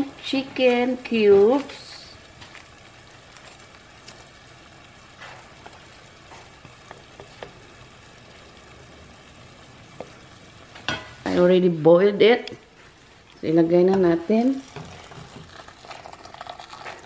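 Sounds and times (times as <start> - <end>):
chicken and rice sizzling in oil: 0.0 - 17.0.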